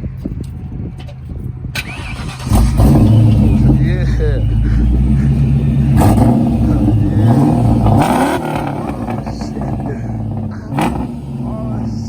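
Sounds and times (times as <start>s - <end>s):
car engine revving: 1.8s - 12.0s.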